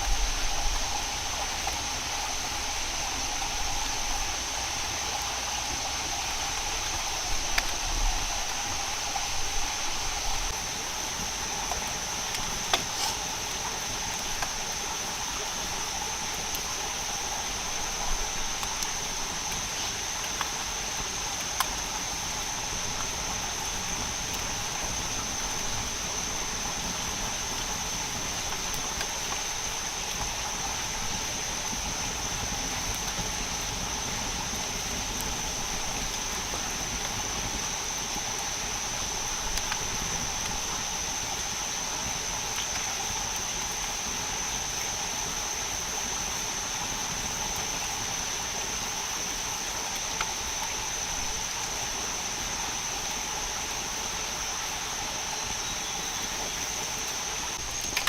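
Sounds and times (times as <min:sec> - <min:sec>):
constant hiss: 0:00.0 - 0:58.0
insects chorus: 0:00.0 - 0:58.0.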